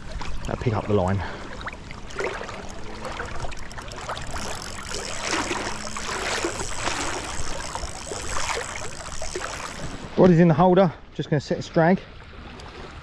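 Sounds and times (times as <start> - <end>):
water sloshing around wading legs: 0.0 - 10.4.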